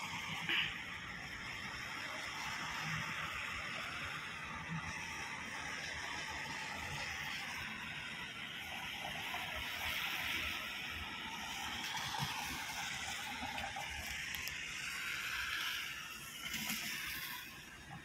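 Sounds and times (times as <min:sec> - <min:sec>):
rain hissing: 0:00.0 - 0:17.8
tyres on wet road: 0:00.0 - 0:18.0.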